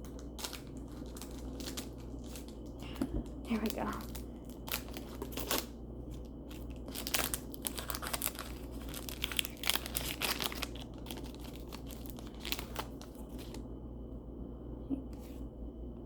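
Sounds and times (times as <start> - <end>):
wrapper crinkling and tearing: 0.0 - 13.6.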